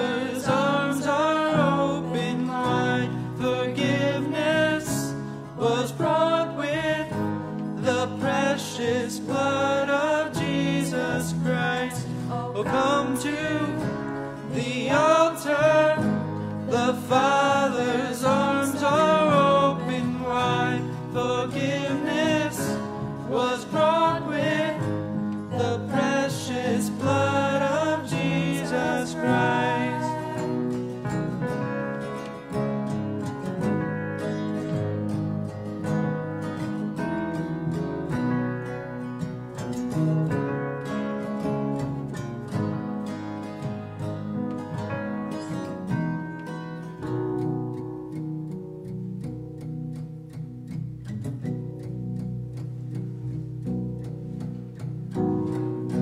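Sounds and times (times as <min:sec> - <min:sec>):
worship song with instruments: 0:00.0 - 0:48.5.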